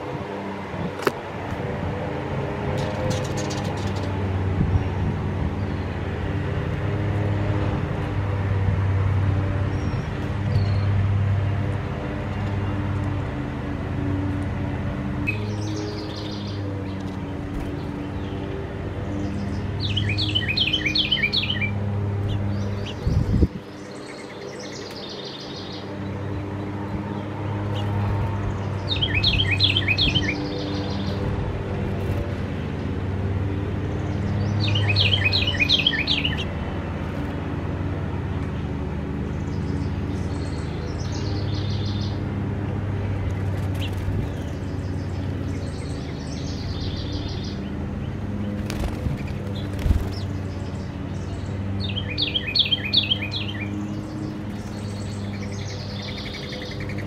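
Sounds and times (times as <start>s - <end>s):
birds chirping: 0.0s - 57.0s
songbirds singing: 0.0s - 57.0s.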